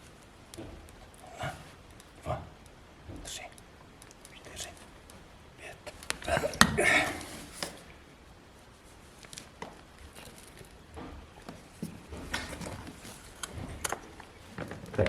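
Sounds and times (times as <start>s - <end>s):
faint shuffling: 0.0s - 15.0s
quiet clicks and light knocks: 0.0s - 15.0s.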